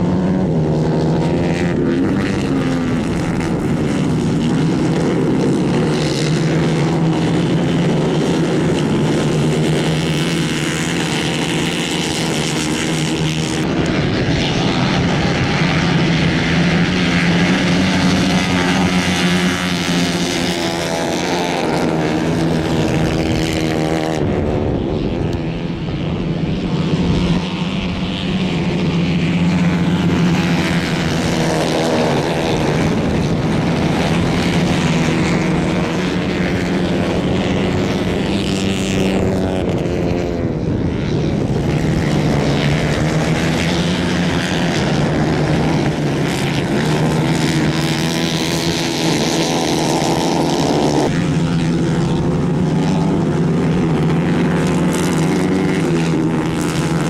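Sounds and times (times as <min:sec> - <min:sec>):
kart engines buzzing: 0:00.0 - 0:57.0.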